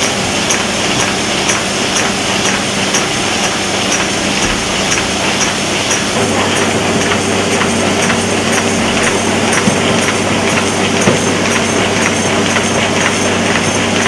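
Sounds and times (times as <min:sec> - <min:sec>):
folding machine clatter: 0:00.0 - 0:14.0.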